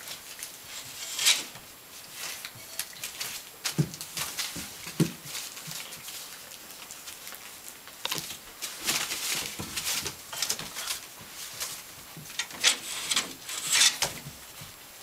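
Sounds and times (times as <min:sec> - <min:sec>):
puppies scuffling and scrabbling: 0:00.0 - 0:15.0.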